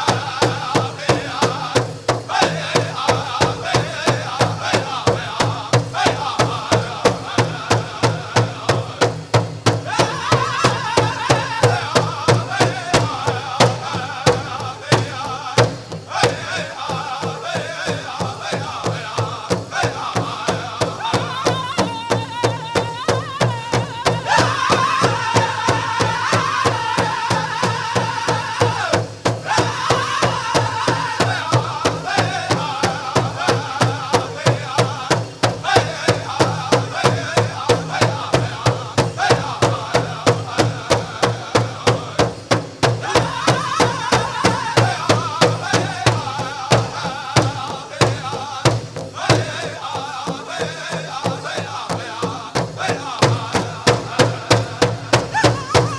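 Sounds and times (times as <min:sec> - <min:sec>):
group of men singing: 0:00.0 - 0:55.9
large drum steady beat: 0:00.0 - 0:55.9.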